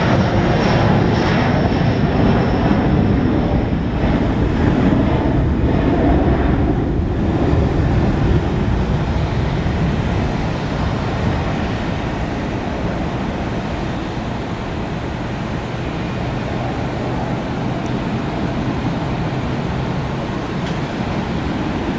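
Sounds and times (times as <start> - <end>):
jet engine roar: 0.0 - 21.9.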